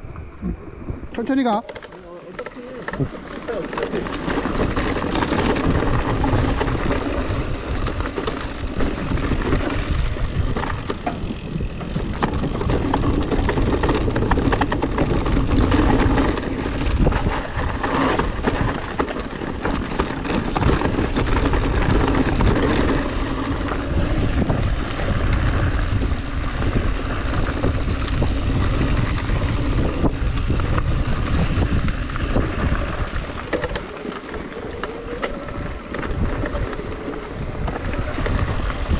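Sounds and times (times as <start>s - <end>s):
wind buffeting microphone: 0.0s - 38.9s
tyres rumbling on dirt: 1.0s - 38.9s.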